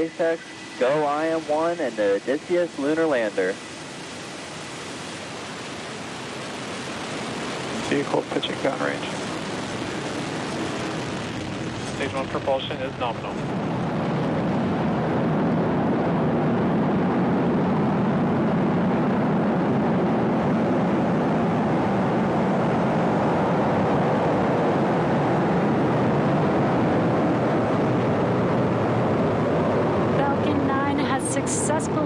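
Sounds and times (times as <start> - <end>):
rocket engines roaring: 0.0 - 32.0.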